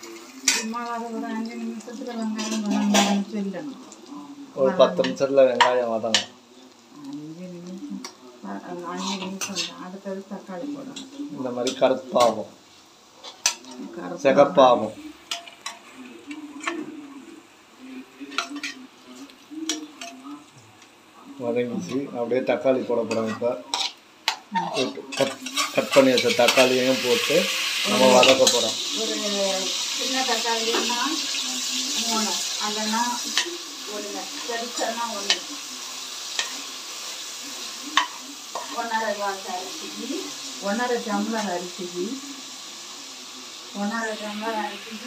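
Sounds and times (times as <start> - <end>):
onions sizzling in hot oil: 0.0 - 45.0.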